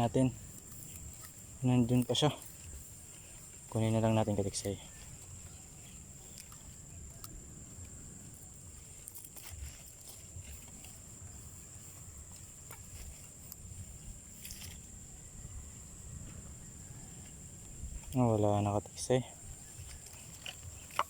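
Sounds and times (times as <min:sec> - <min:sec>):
high-pitched insect drone: 0:00.0 - 0:20.9
faint rustles and clicks: 0:00.0 - 0:21.0.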